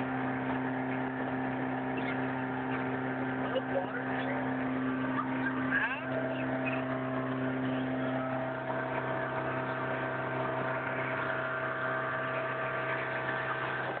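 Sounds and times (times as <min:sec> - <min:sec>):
motorboat engine hum: 0:00.0 - 0:14.0.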